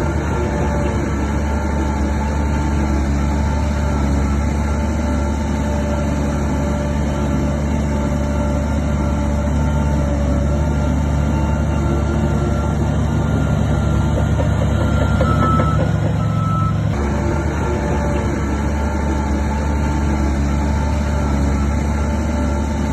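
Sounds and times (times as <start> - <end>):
constant whine: 0.0 - 22.9
diesel engine drone: 0.0 - 22.9.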